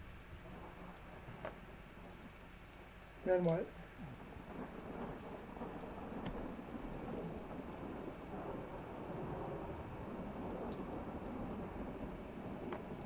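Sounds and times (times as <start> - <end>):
rolling thunder: 0.0 - 2.8, 3.8 - 13.0
steady rain falling: 0.0 - 13.0
water dripping: 0.0 - 13.0.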